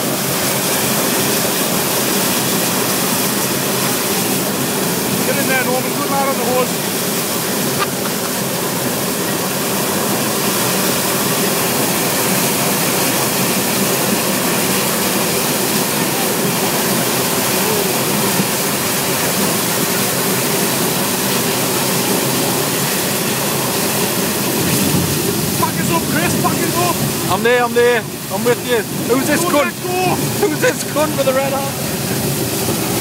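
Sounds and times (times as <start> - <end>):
fire hose spraying water: 0.0 - 33.0.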